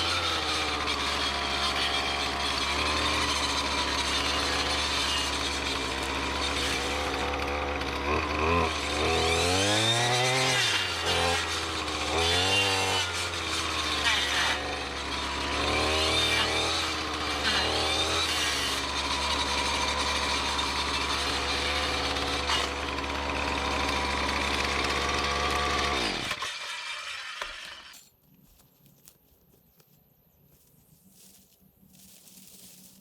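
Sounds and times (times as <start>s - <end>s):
weed eater engine revving: 0.0s - 28.0s.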